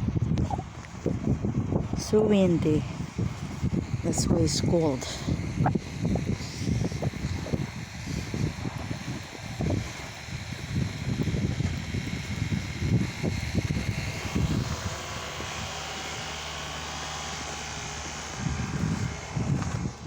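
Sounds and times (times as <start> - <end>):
wind gusting over microphone: 0.0 - 20.0
hiss of wind and blowing snow: 0.3 - 20.0.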